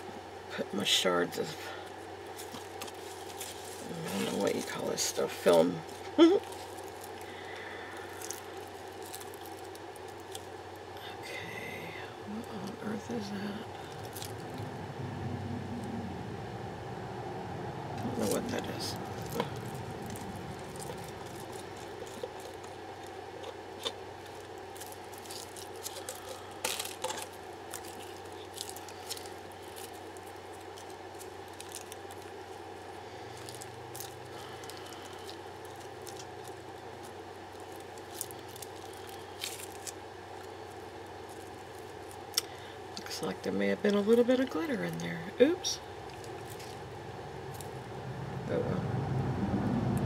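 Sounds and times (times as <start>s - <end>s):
low room hum: 0.0s - 50.0s.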